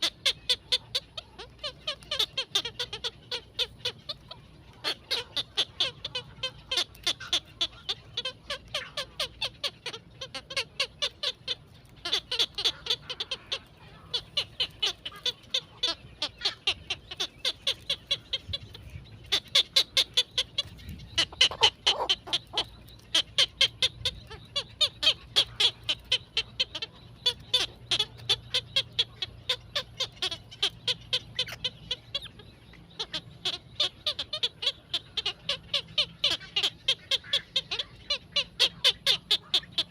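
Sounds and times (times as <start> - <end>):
low bird call: 0.0 - 39.9
young birds chirping: 0.0 - 39.9.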